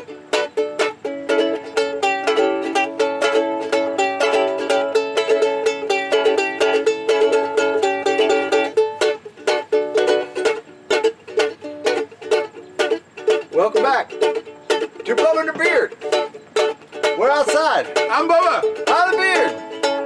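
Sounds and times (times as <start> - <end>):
strummed string instrument music: 0.0 - 20.0.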